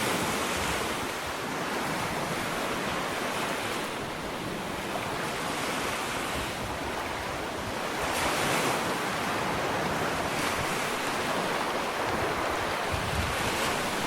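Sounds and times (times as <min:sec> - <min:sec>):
ocean waves breaking: 0:00.0 - 0:14.0
wind on microphone: 0:00.0 - 0:14.0.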